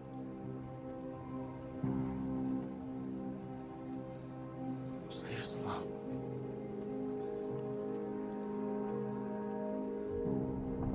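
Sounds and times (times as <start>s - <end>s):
slow sustained orchestral chords: 0.0s - 10.9s.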